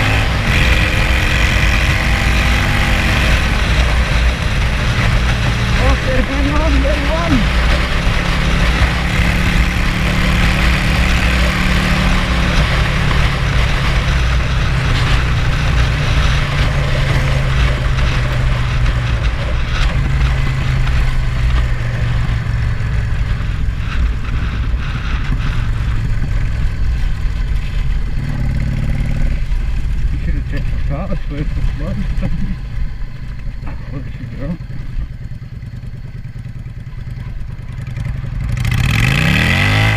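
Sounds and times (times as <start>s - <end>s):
car engine humming: 0.0s - 39.9s.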